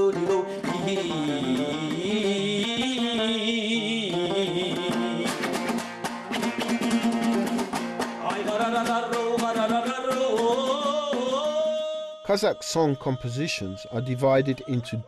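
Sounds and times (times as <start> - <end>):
strummed lute: 0.0 - 13.2.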